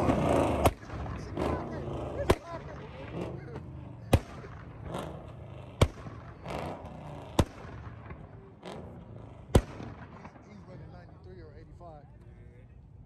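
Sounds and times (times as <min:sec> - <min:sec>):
loud sharp bangs: 0:00.0 - 0:11.0.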